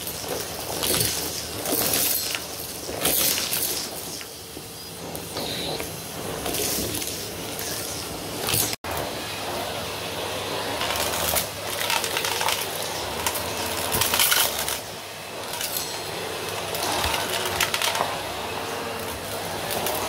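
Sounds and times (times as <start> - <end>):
debris rattling up vacuum tube: 0.0 - 8.8, 10.8 - 20.0
vacuum cleaner running: 0.0 - 20.0.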